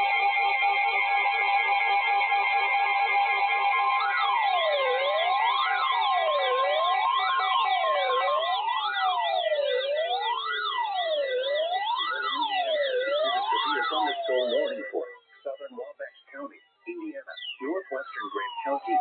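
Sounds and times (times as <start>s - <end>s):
electronic siren wailing: 0.0s - 16.5s, 17.1s - 19.0s
high-pitched siren yelp: 0.0s - 19.0s.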